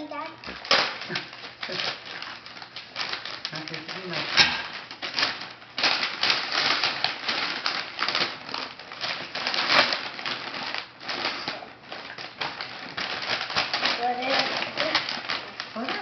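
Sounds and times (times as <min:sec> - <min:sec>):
wrapping paper crinkling: 0:00.0 - 0:16.0.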